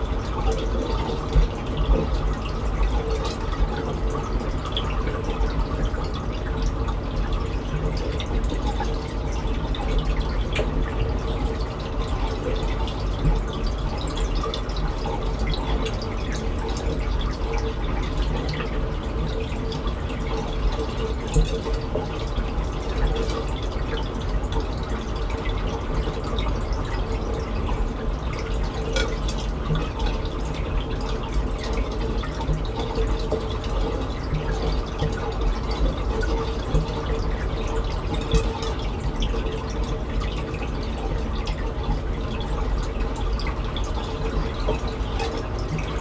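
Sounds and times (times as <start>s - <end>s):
faint steady hum: 0.0s - 46.0s
water trickling and splashing: 0.0s - 46.0s.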